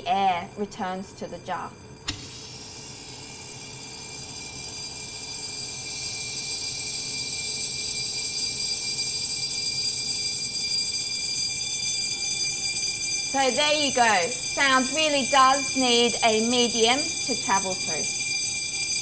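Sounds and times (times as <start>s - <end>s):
electric bell ringing: 0.0s - 19.0s.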